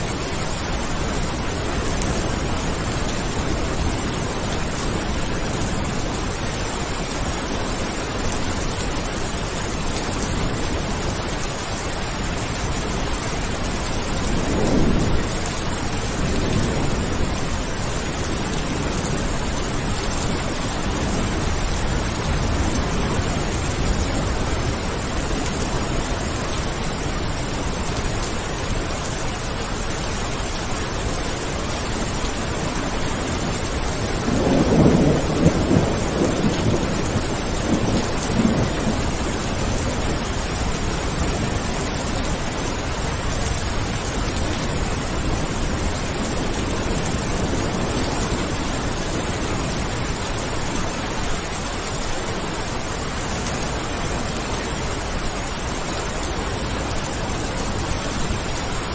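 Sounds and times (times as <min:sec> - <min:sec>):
heavy rain hissing: 0:00.0 - 0:58.9
low thunder rumbling: 0:00.1 - 0:58.9.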